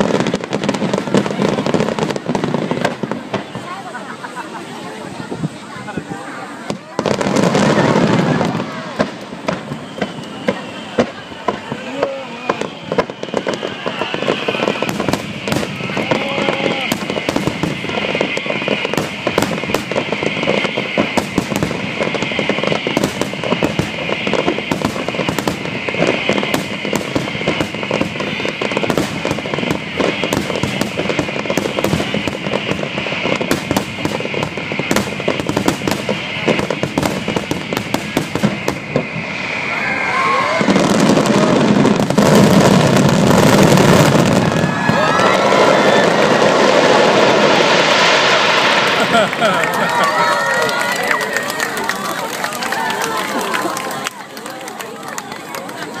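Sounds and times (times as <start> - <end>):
fireworks bursting with crackling: 0.0 - 56.0.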